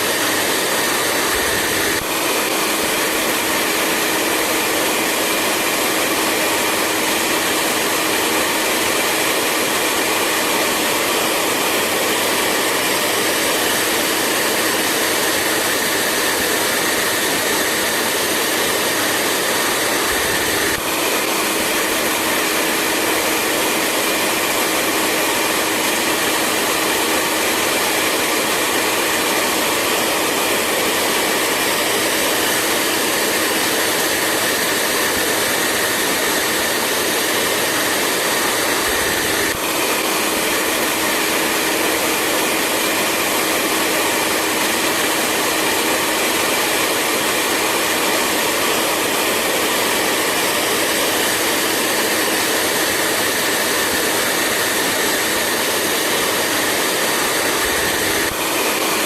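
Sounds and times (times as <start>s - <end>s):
hair dryer blowing air: 0.0s - 59.0s.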